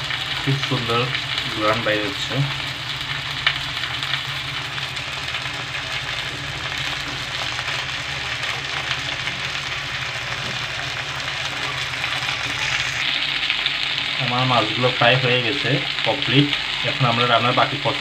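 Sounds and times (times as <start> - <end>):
fish sizzling in pan: 0.0 - 18.0.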